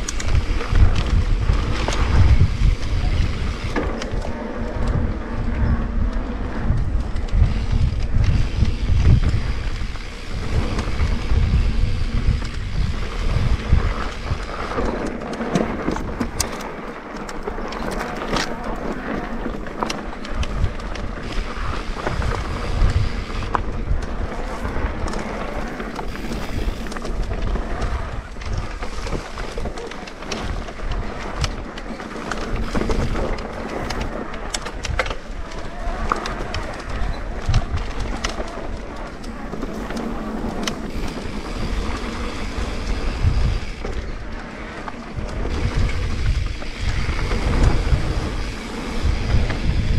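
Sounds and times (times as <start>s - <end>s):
bike rattling: 0.0s - 49.9s
tyres rolling over dirt and rocks: 0.0s - 49.9s
wind rumbling on microphone: 0.0s - 49.9s.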